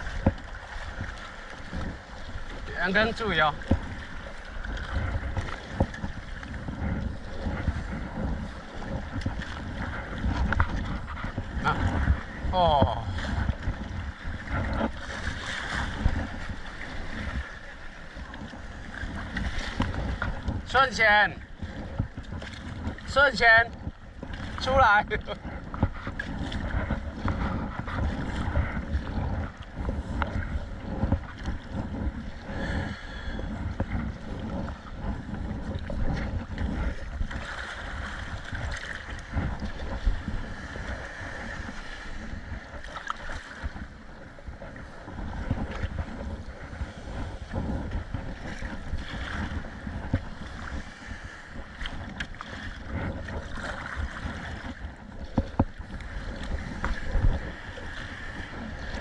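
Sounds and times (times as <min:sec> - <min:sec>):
water splashing around kayak: 0:00.0 - 0:59.0
wind buffeting microphone: 0:00.0 - 0:59.0.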